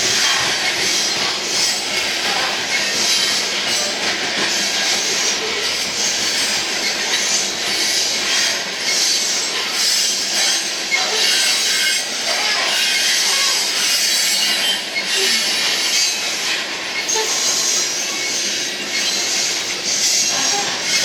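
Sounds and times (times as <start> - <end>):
train wheels grinding and squealing: 0.0 - 21.0.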